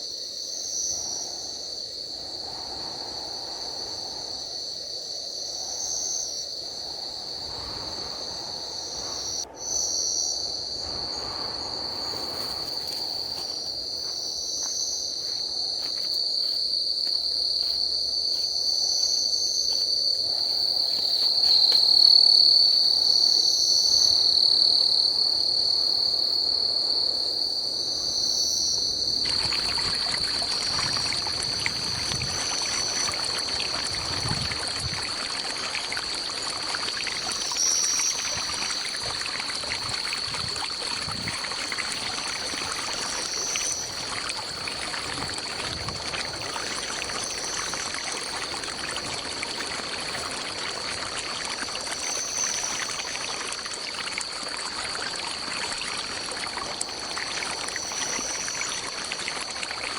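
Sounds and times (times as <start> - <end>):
high-pitched insect drone: 0.0 - 50.2
stream water trickling: 0.0 - 59.9.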